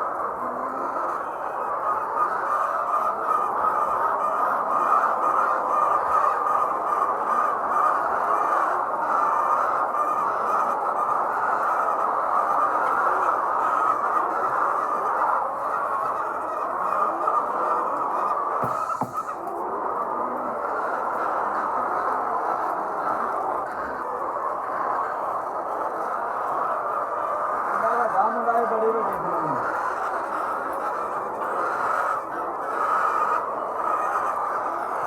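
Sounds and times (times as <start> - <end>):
hens clucking: 0.0 - 35.0.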